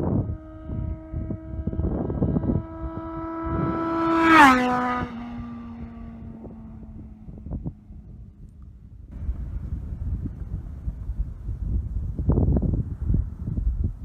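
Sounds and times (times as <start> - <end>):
motorcycle passing at high speed: 0.0 - 14.0
wind buffeting microphone: 0.0 - 14.0.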